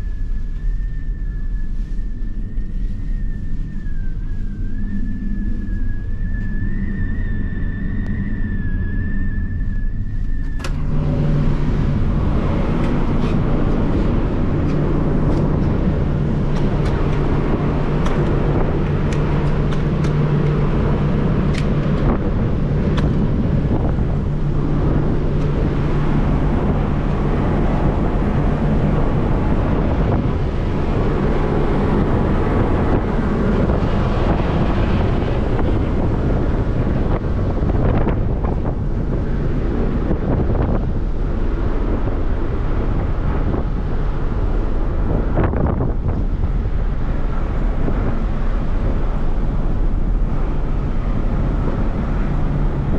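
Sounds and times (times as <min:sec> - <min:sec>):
engine humming: 0:00.0 - 0:52.9
rough engine rumble: 0:00.0 - 0:52.9
thin high whine: 0:00.0 - 0:52.9.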